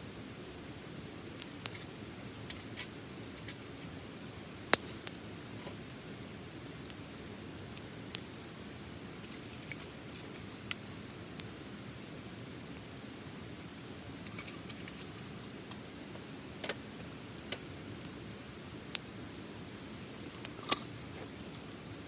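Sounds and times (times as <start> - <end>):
fire crackles and pops: 0.0 - 22.0
wood fire burning: 0.0 - 22.0.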